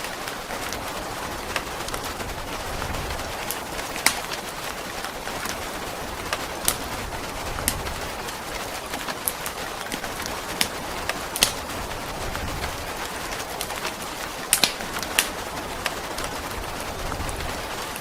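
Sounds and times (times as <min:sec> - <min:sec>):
steady rain: 0:00.0 - 0:18.0
wood fire crackles and pops: 0:00.0 - 0:18.0.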